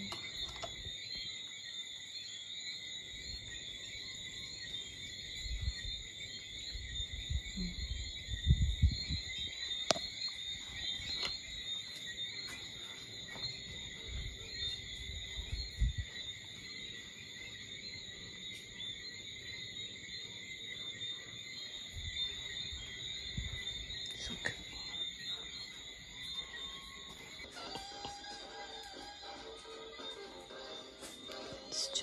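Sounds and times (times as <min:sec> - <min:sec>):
insects and frogs chorus: 0:00.0 - 0:32.0.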